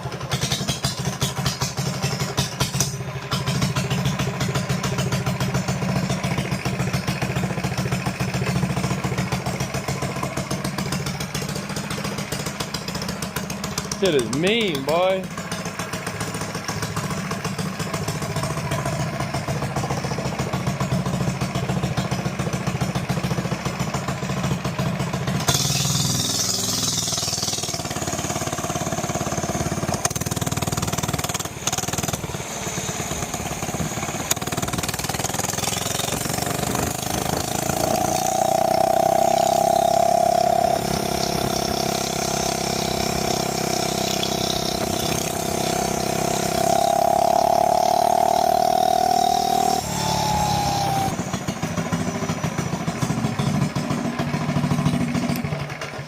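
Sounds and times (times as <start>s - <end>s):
minibike engine running: 0.0s - 56.0s.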